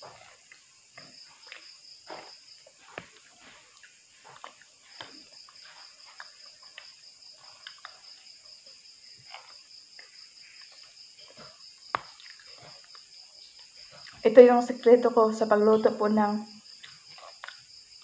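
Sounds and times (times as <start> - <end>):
person chewing: 0.0 - 14.2, 16.6 - 18.0
crickets trilling: 0.0 - 18.0.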